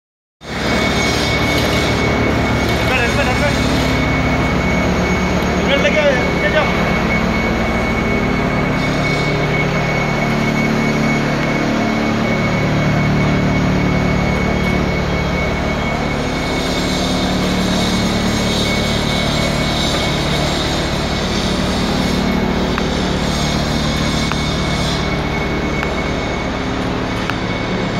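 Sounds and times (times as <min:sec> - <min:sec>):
low machinery hum: 0:00.4 - 0:27.9
thin high whine: 0:00.4 - 0:27.9.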